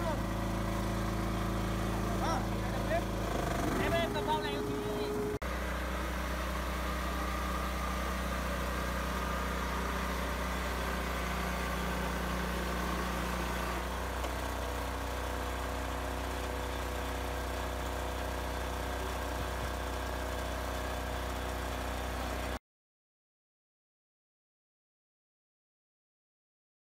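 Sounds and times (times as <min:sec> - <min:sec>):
engine droning: 0:00.0 - 0:22.6.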